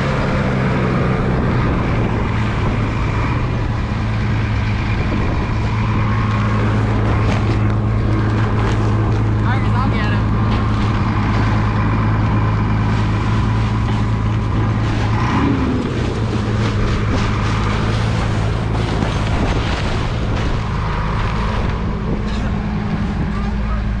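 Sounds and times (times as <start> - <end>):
engine running steadily: 0.0 - 24.0
wind buffeting microphone: 0.0 - 24.0.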